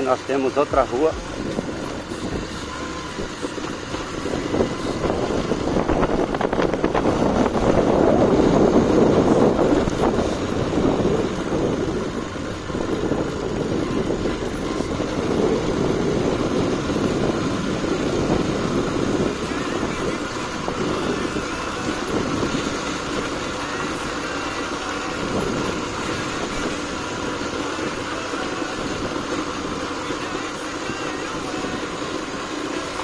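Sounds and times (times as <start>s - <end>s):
vehicle engine and road noise: 0.0s - 33.0s.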